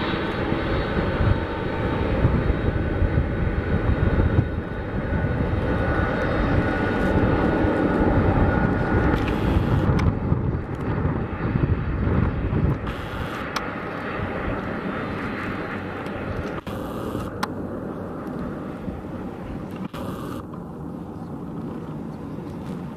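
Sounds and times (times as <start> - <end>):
jet engines running at low power: 0.0 - 22.9.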